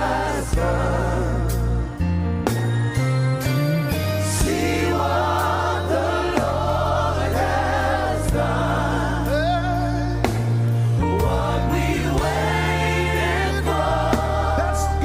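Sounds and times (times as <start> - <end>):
choir singing gospel: 0.0 - 2.8, 3.9 - 15.0.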